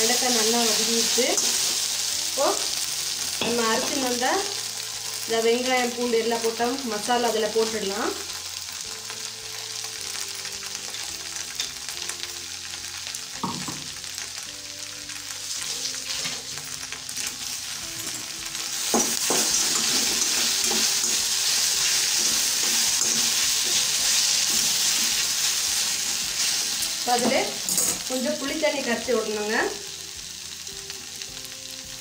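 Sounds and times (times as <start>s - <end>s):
vegetables frying and sizzling: 0.0s - 32.0s.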